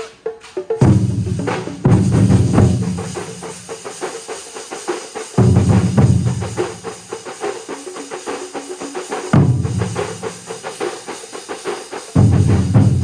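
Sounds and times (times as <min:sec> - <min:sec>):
drum ensemble playing: 0:00.0 - 0:13.0.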